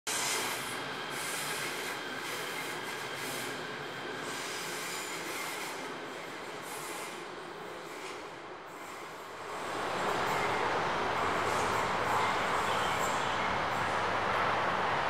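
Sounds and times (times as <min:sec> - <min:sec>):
train running on rails: 0:00.1 - 0:15.0.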